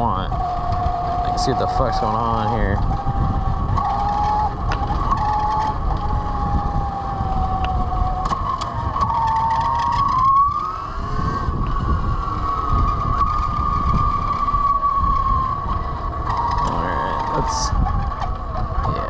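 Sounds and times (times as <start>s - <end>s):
electric motorcycle motor whine: 0.0s - 19.0s
road rumble: 0.0s - 19.0s
wind: 0.0s - 19.0s.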